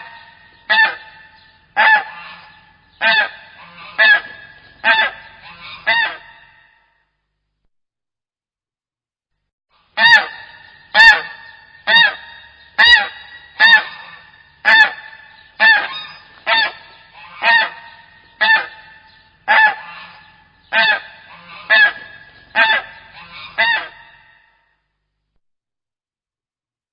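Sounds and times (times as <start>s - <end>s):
goose honking: 0.0s - 6.8s, 9.8s - 24.6s.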